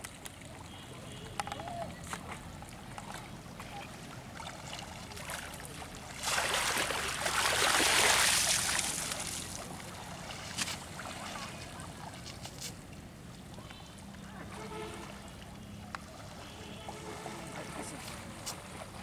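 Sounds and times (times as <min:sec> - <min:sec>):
river water splashing: 0:00.0 - 0:19.0
water lapping and dripping: 0:00.0 - 0:19.0.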